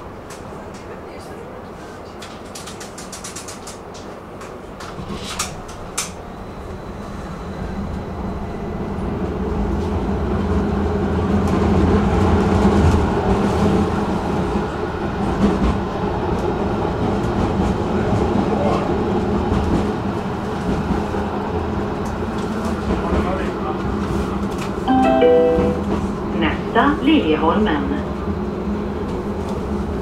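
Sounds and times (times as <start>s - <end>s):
tram rumbling on rails: 0.0s - 30.0s.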